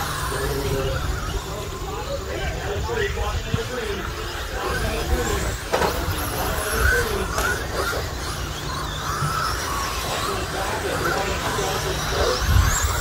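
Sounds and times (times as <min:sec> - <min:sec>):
rc truck motor whine: 0:00.0 - 0:13.0.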